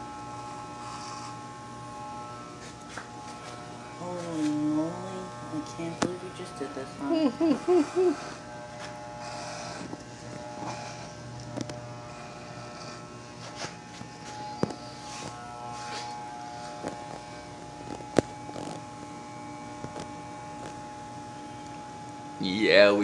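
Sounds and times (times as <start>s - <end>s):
electric hair clippers buzzing: 0.0s - 23.0s.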